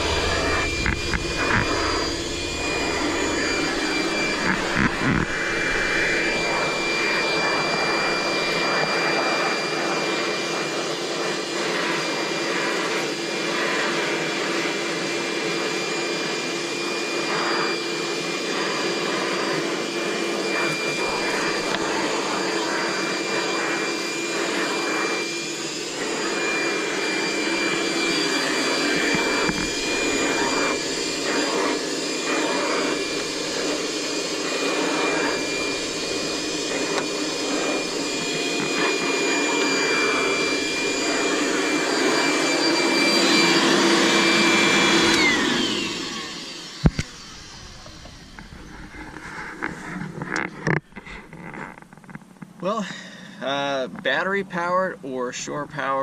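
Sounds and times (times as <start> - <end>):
vacuum cleaner running: 0.0 - 51.8.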